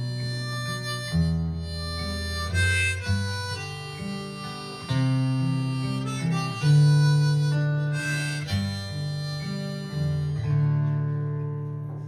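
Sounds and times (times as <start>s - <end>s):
strummed acoustic guitar chords: 0.0s - 12.0s
sustained melody line: 0.0s - 12.0s.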